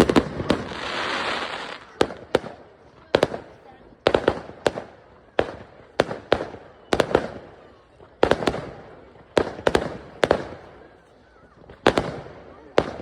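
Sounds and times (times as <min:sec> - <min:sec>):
fireworks banging: 0:00.0 - 0:07.6, 0:08.2 - 0:11.0, 0:11.6 - 0:13.0.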